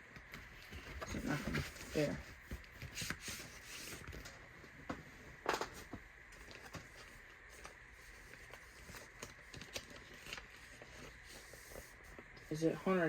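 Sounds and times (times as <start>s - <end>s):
vinyl record sleeve rustling: 0.1s - 13.0s.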